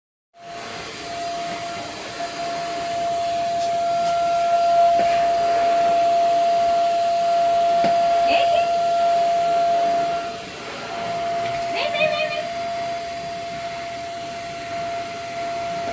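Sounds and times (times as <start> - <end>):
vacuum cleaner running: 0.4 - 15.9.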